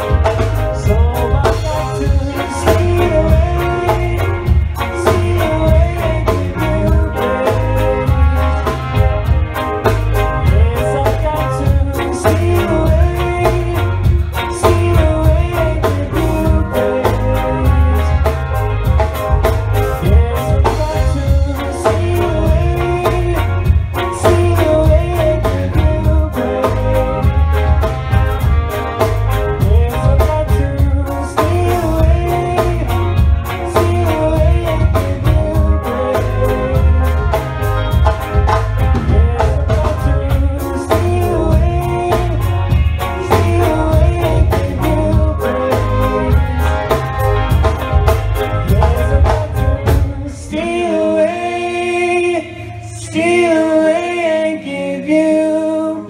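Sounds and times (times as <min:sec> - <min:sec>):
drum kit beat: 0:00.0 - 0:50.5
trumpet and trombone melody: 0:00.0 - 0:54.4
electric guitar: 0:00.0 - 0:56.0
reggae band playing: 0:00.0 - 0:56.0.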